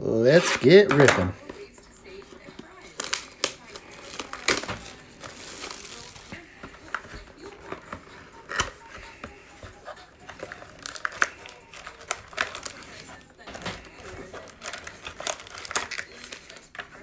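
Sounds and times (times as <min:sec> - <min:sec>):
foil packs crinkling: 0:00.2 - 0:17.0.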